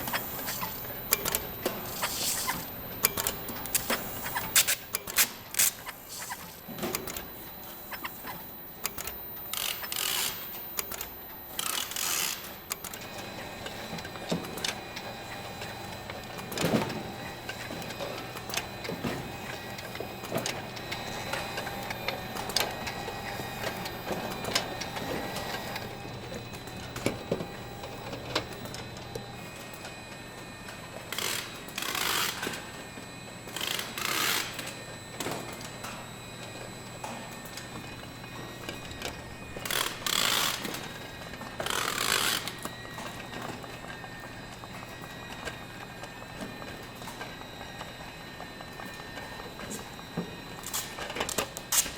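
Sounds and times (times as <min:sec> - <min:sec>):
machinery humming and whining: 0:00.0 - 0:51.9.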